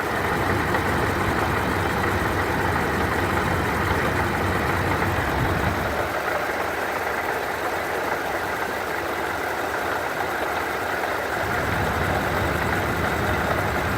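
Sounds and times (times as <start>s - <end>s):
car engine idling: 0.0s - 13.9s
supercharger grinding rattle: 0.0s - 13.9s.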